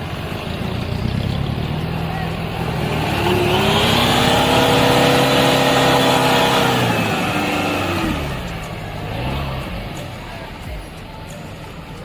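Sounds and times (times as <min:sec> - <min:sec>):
vehicle engine revving hard: 0:00.0 - 0:10.3.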